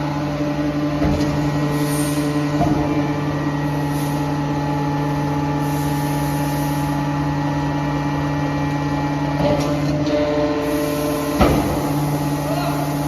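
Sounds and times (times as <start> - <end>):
electric motor and pump humming: 0.0 - 13.0.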